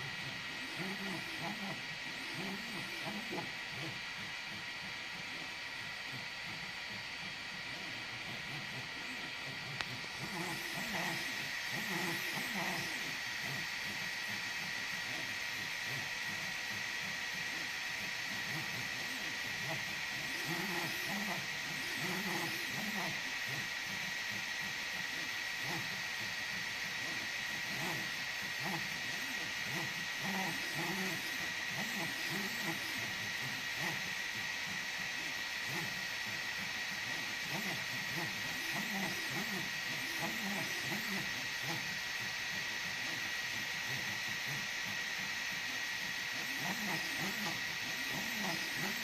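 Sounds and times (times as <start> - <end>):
steady high whine: 0.0 - 49.0
stepper motors whirring: 0.0 - 49.0.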